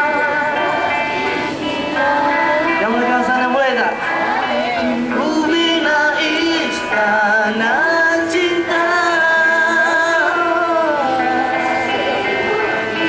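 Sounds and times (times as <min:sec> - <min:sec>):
backing music: 0:00.0 - 0:13.0
man singing into microphone: 0:00.0 - 0:13.0.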